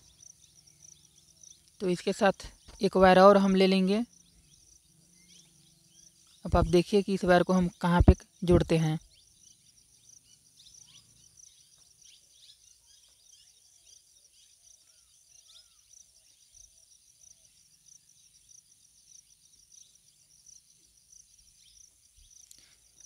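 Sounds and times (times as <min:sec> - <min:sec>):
faint bird chirps: 0:00.0 - 0:23.0
high insect buzz: 0:00.0 - 0:23.0.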